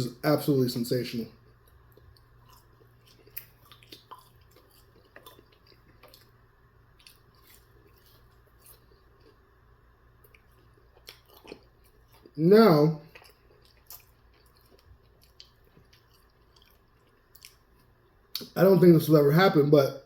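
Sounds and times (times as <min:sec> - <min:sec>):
low steady hum: 0:00.0 - 0:20.0
person chewing food: 0:01.3 - 0:18.6.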